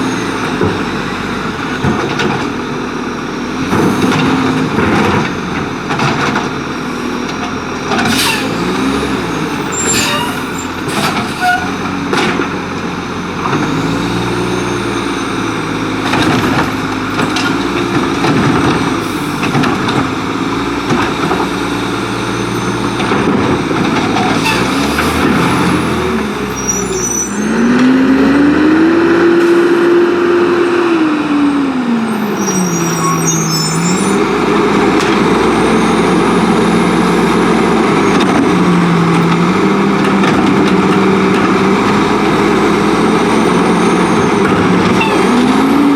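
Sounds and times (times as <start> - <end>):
diesel truck engine revving: 0.0 - 45.9.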